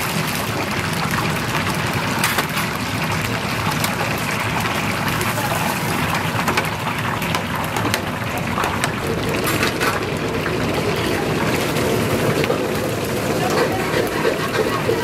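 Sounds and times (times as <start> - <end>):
deep-frying oil sizzling: 0.0 - 15.0.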